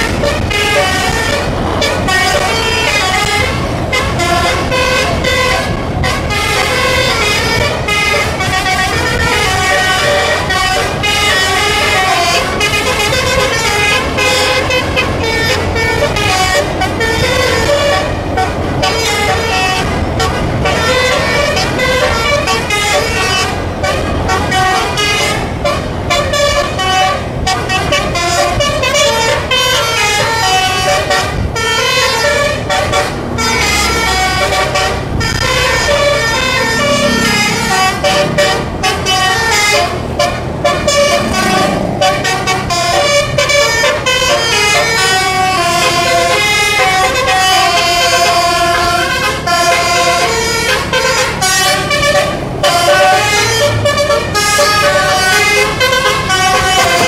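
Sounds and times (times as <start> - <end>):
bus engine rumbling: 0.0 - 57.0
multi-tone bus air horn: 0.0 - 57.0.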